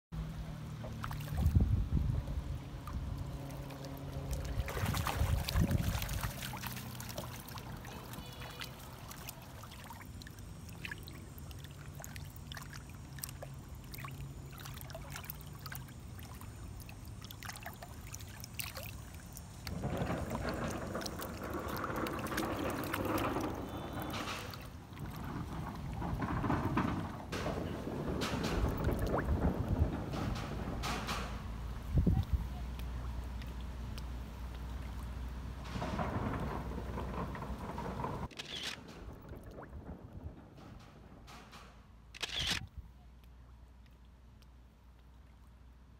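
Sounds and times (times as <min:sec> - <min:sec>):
water lapping and splashing: 0:00.2 - 0:41.2.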